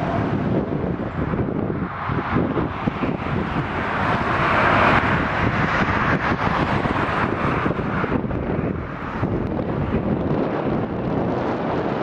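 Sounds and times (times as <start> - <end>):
jet engines roaring: 0.0 - 12.0
wind buffeting microphone: 0.0 - 12.0.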